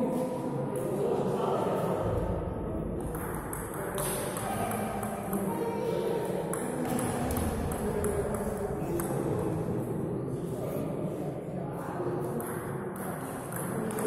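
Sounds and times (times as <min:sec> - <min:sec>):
murmur of voices: 0:00.0 - 0:14.0.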